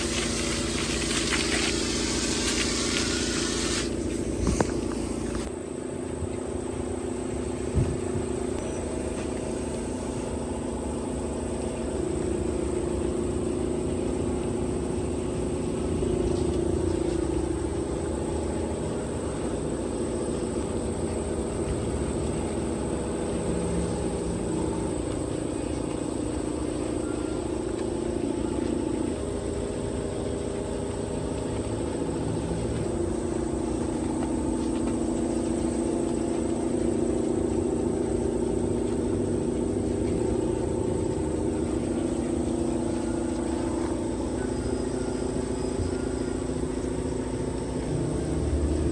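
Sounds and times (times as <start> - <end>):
machine drone: 0.0 - 48.9.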